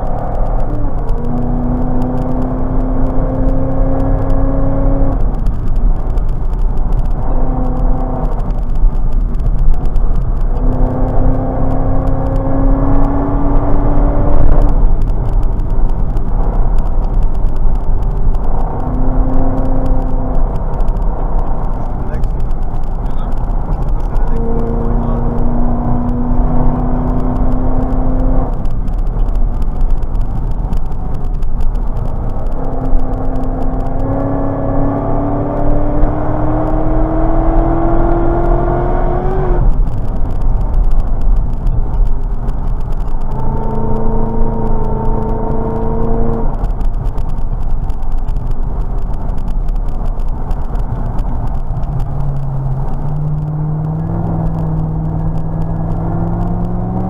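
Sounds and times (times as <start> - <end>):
car engine revving in cabin: 0.0 - 57.0
road and wind noise: 0.0 - 57.0.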